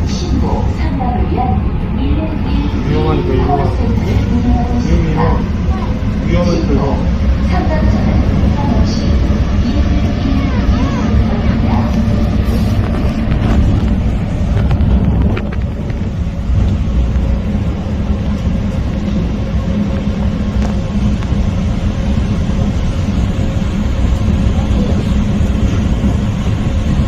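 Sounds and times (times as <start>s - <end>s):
train rumble inside carriage: 0.0s - 27.0s.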